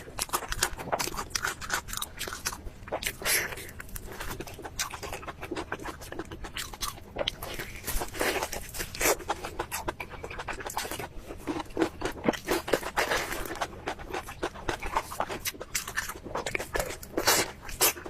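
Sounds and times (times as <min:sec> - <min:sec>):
crunchy chewing and biting: 0:00.0 - 0:18.0.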